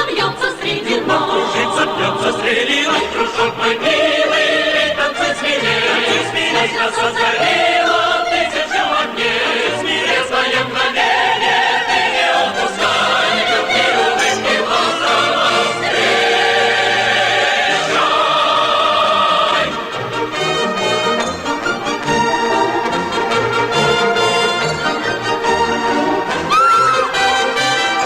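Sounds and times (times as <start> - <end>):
choir singing: 0.0 - 28.0
orchestra playing: 5.5 - 28.0.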